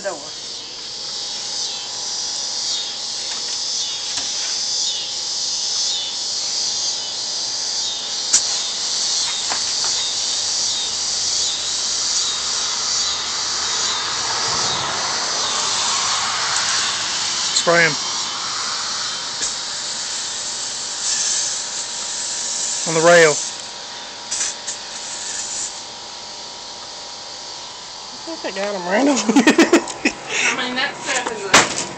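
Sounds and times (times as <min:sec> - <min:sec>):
high-pitched insect chorus: 0:00.0 - 0:31.7.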